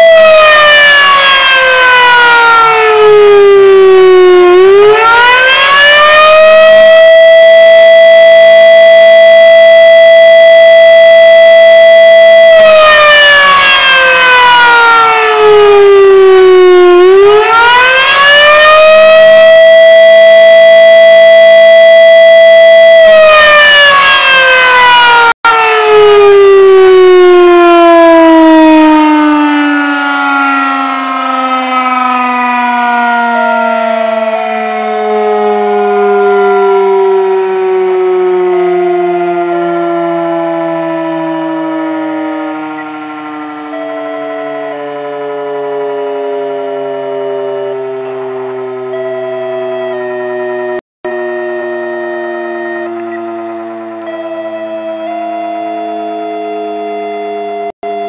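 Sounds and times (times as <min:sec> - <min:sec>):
fire siren wailing: 0:00.0 - 0:58.0.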